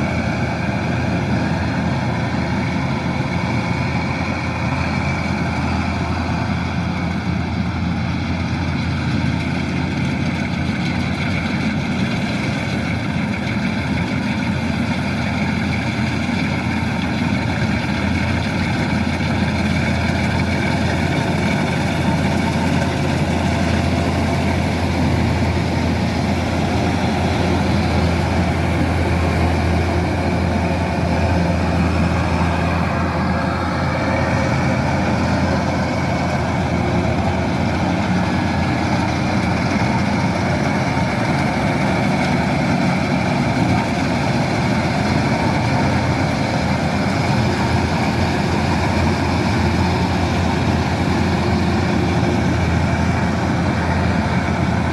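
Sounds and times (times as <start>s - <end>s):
combine harvester engine drone: 0.0s - 54.9s.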